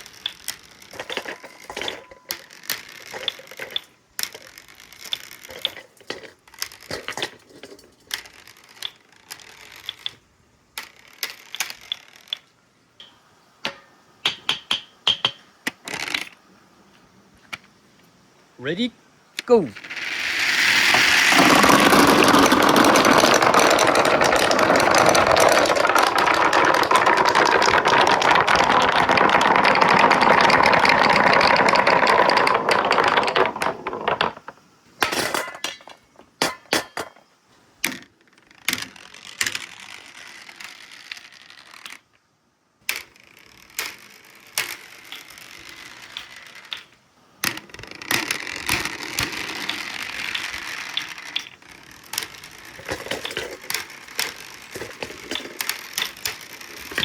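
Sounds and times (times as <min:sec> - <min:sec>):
marbles rolling and clattering: 0:00.0 - 0:16.4, 0:19.4 - 0:57.0.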